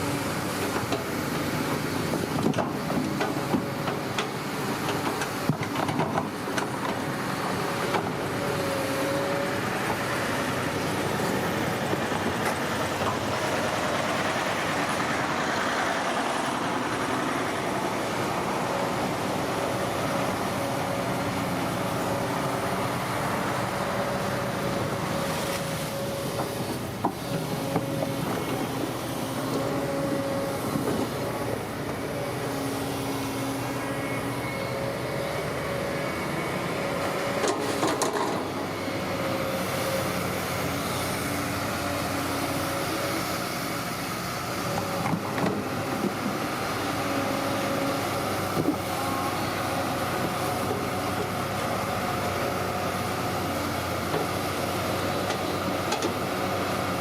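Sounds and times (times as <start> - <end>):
bulldozer diesel engine humming: 0.0 - 57.0.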